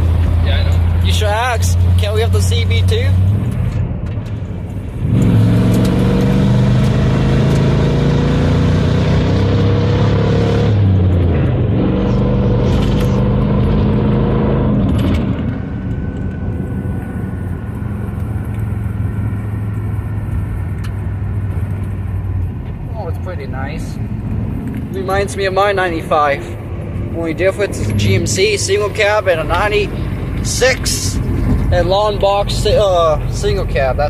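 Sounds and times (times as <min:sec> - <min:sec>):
pickup truck engine accelerating: 0:00.0 - 0:34.0.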